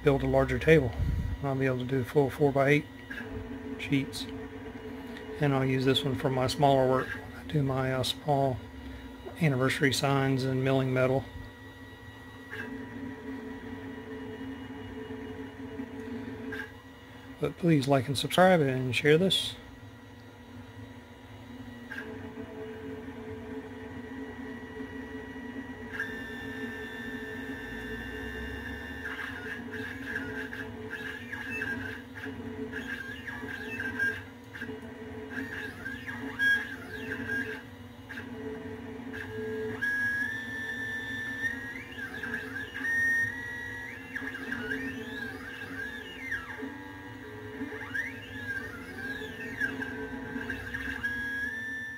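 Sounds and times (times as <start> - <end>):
stepper motors whining: 0.0 - 19.6, 21.6 - 51.9
steady hum: 0.0 - 51.9.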